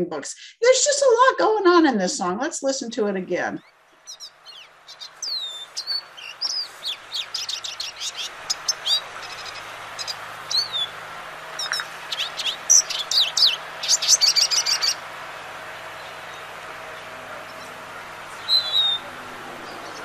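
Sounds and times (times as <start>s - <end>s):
goldfinch song: 3.5s - 20.0s.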